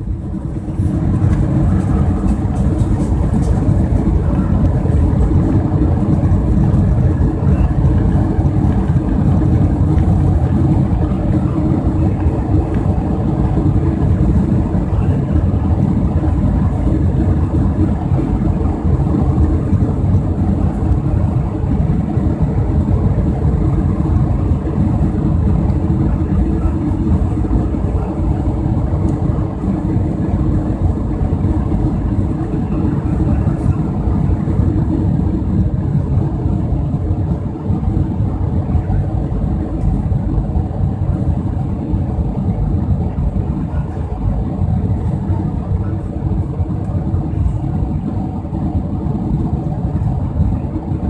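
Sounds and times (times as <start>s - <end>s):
jet engines rumbling in cabin: 0.0s - 51.0s.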